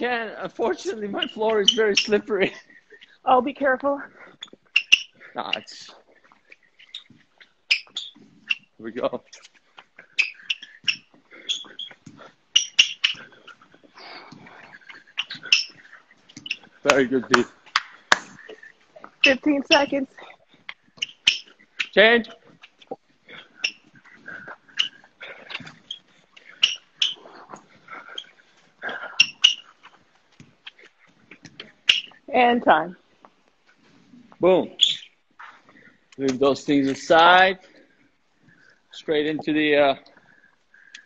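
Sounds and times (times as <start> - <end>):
shoe taps and squeaks: 0.0 - 32.5, 34.8 - 36.5.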